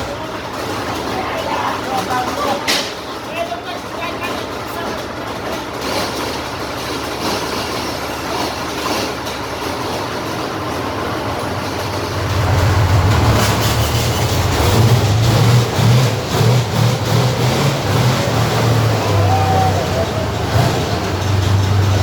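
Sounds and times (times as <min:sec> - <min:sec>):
heavy vehicle engine rumbling: 0:00.0 - 0:22.0.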